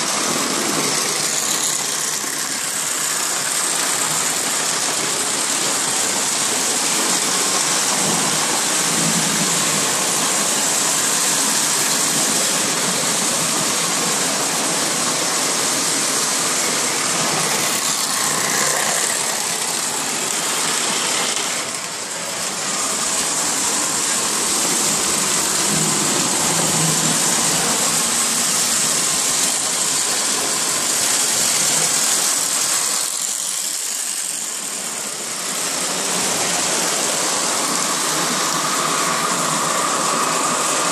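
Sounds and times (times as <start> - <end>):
model trains rumbling on track: 0.0 - 40.9.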